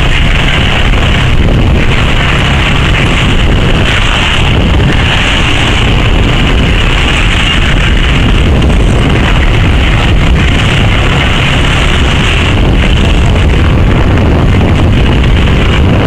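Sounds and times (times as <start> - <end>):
scooter engine: 0.0 - 16.0
wind rushing over microphone: 0.0 - 16.0.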